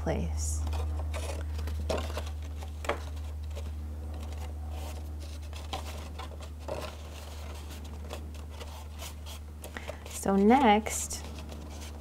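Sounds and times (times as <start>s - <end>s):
steady low hum: 0.0s - 12.0s
paper rustling: 0.6s - 12.0s.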